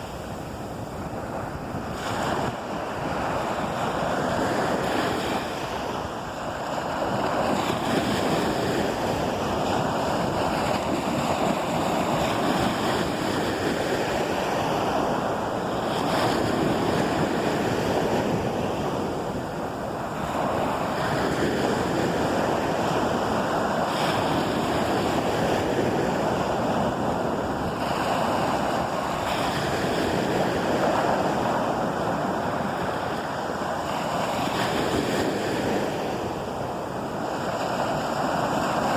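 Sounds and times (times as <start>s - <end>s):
surf washing onto beach: 0.0s - 38.9s
wind on microphone: 0.0s - 38.9s.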